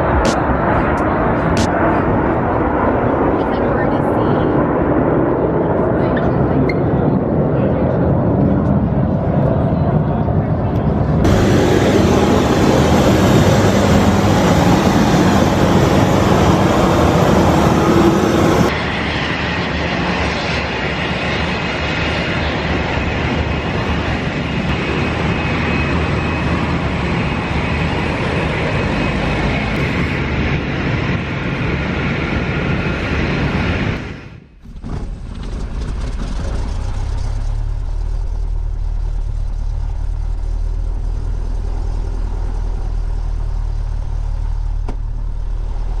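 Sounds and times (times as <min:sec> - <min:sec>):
propeller plane engine drone: 0:00.0 - 0:46.0.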